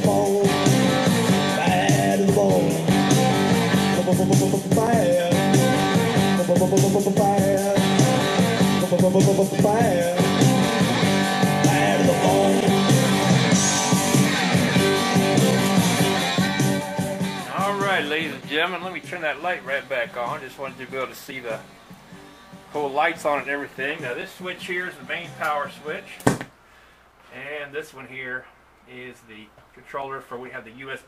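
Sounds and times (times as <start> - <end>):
rock song over speaker: 0.0 - 21.7, 22.6 - 26.4.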